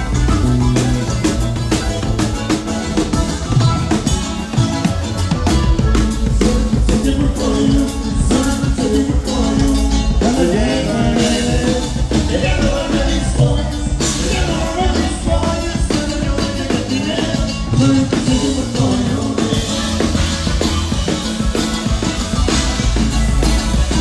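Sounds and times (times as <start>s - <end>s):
accordion melody: 0.0s - 24.0s
bass: 0.0s - 24.0s
drum kit: 0.0s - 24.0s.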